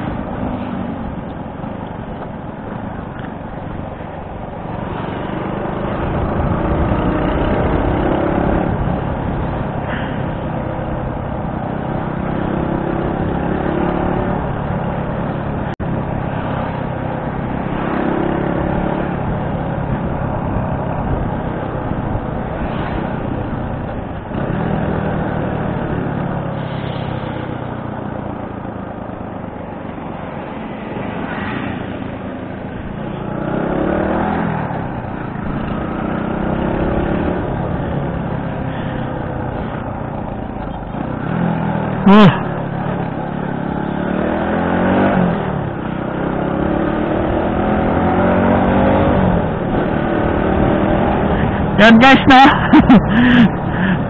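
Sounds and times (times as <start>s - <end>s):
wind and road noise: 0.0s - 54.0s
motorcycle engine accelerating: 4.6s - 30.0s, 30.7s - 54.0s.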